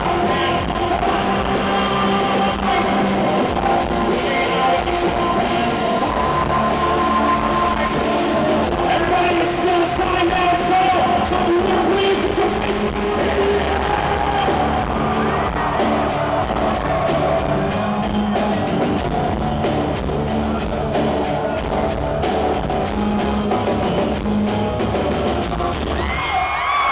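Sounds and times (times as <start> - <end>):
bass line: 0.0 - 26.9.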